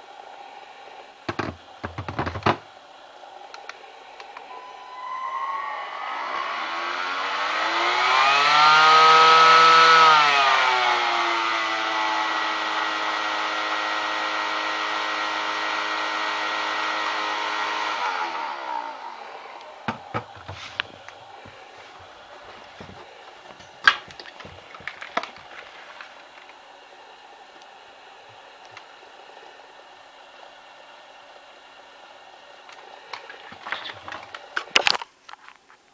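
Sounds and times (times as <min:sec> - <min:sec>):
stick vacuum motor whining: 0:01.3 - 0:02.6, 0:03.5 - 0:29.0, 0:32.6 - 0:35.0.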